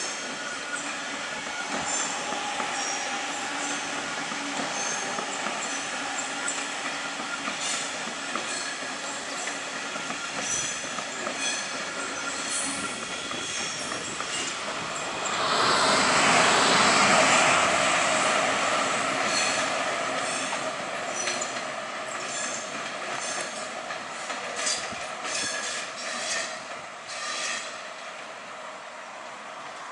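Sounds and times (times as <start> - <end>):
train wheels squealing on rails: 0.0 - 28.1
train rolling noise: 0.0 - 29.9.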